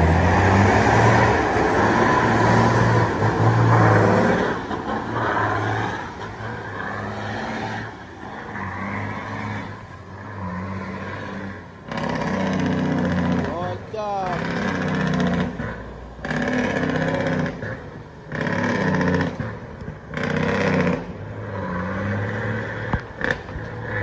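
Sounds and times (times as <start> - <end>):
truck engine passing: 0.0 - 24.0.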